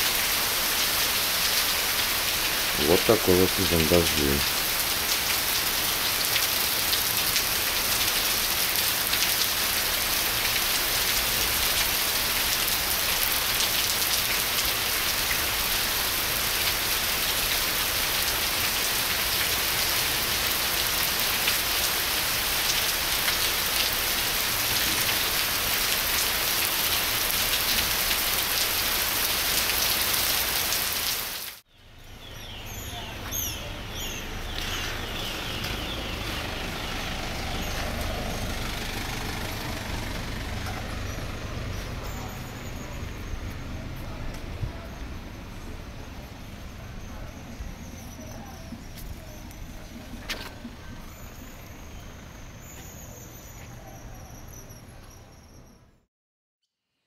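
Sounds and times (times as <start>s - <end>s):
heavy rain falling: 0.0s - 31.6s, 33.2s - 47.8s.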